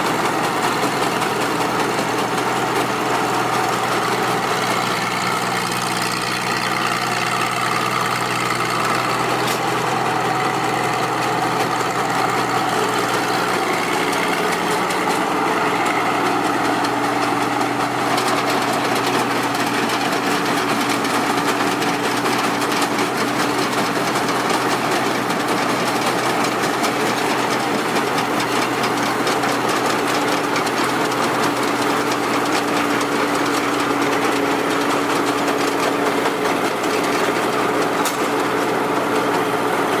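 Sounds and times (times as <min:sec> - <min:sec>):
combine harvester droning: 0:00.0 - 0:40.0.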